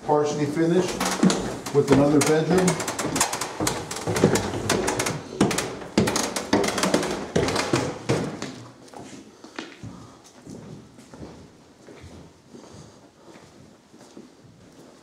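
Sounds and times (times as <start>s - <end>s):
footsteps going down stairs: 0.0s - 15.0s.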